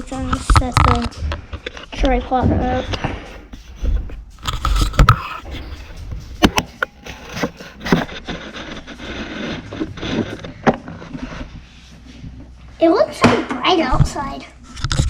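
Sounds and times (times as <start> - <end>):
scraping and rubbing: 0.0 - 13.1, 13.9 - 15.0.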